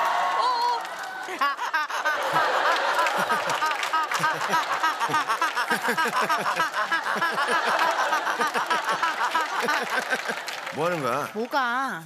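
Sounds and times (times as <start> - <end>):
audience laughing: 1.0 - 11.2.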